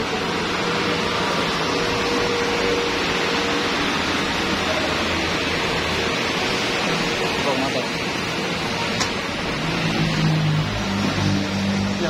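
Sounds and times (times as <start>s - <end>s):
gas burner flame rushing: 0.0s - 12.0s.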